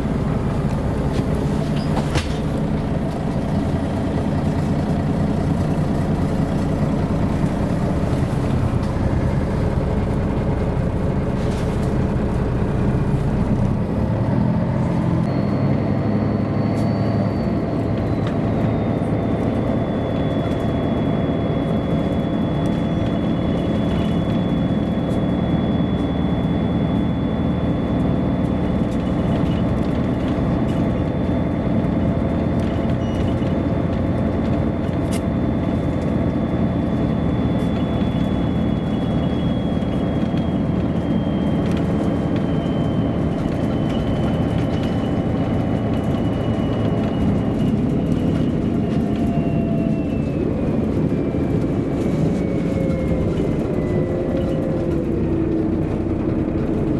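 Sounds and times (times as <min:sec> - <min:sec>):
bus driving rumble: 0:00.0 - 0:56.9.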